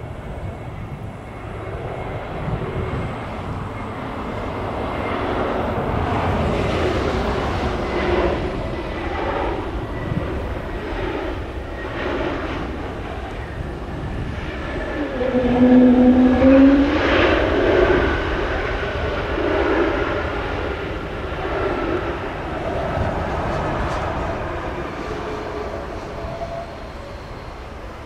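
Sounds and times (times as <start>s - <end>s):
airliner jet engines on landing: 0.0s - 28.0s.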